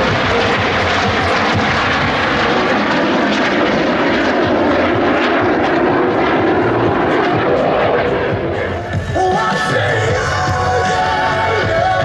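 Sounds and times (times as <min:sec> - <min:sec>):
aircraft engine: 0:00.0 - 0:12.0.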